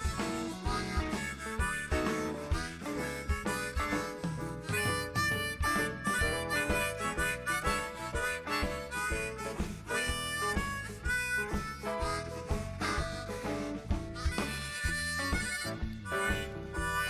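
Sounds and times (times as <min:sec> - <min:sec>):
band shuffle beat: 0:00.0 - 0:17.0
blues harmonica solo: 0:00.0 - 0:17.0.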